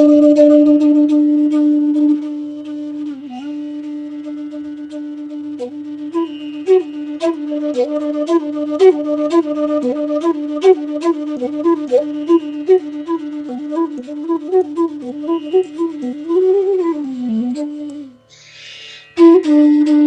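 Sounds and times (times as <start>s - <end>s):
bamboo flute melody: 0.0s - 20.0s.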